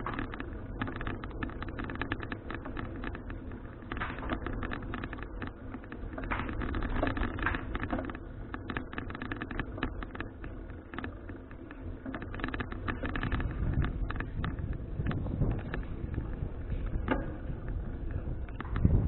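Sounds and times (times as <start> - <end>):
bicycle clicks and rattles: 0.0 - 19.0
wind and road rumble: 0.0 - 19.0.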